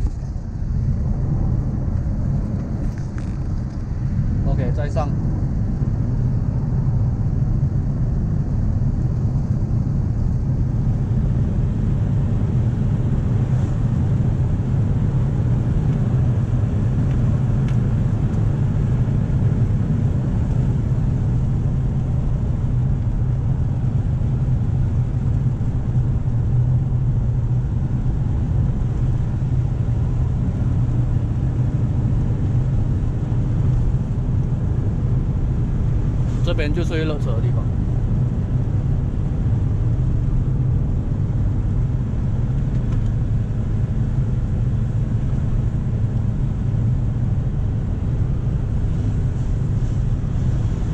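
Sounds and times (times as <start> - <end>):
in-cab engine and tyre drone: 0.0 - 50.9.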